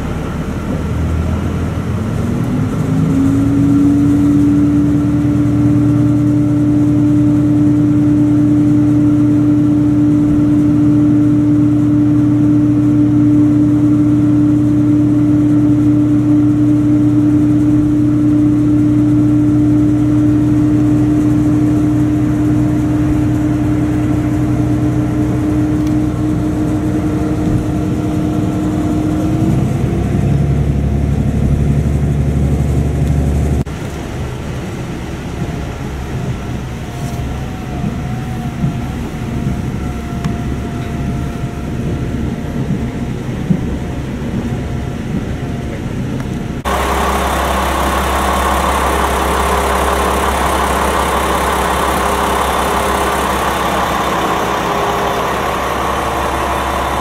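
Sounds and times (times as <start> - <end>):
diesel railcar engine drone: 0.0 - 57.0.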